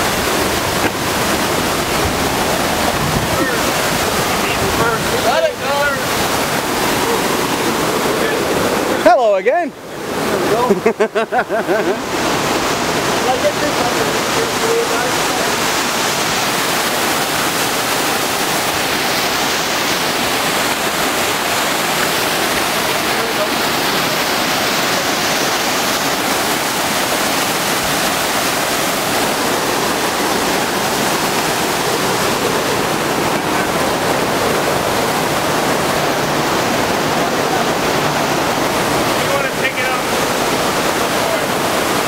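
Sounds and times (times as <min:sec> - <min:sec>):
rushing falling water: 0:00.0 - 0:42.0.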